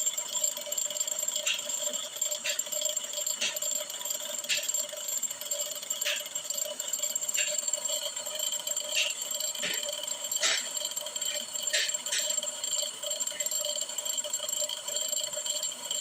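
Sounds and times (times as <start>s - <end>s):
brake lathe cutting metal drum: 0.0s - 16.0s
irregular scraping tick: 1.0s - 16.0s.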